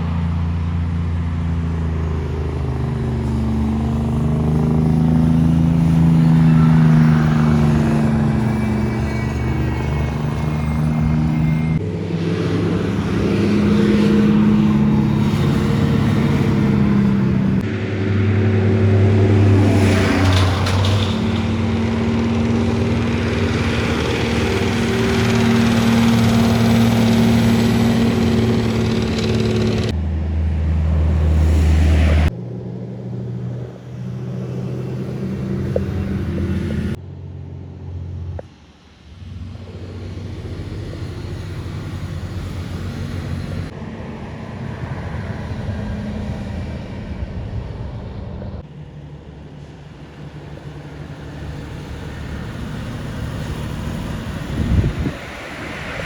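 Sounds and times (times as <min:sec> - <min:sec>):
truck diesel engines passing: 0:00.0 - 0:56.0.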